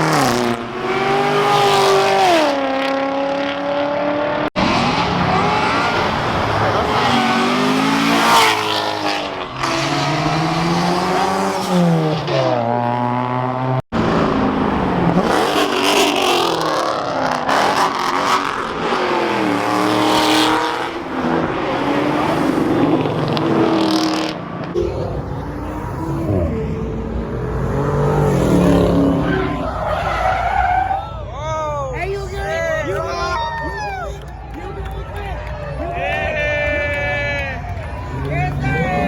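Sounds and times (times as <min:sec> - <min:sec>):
car engines revving and accelerating: 0:00.0 - 0:39.0.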